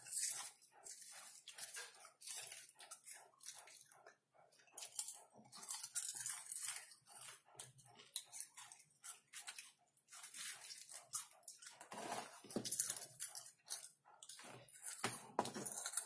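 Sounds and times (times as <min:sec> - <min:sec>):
chewing popcorn: 0:00.0 - 0:16.0.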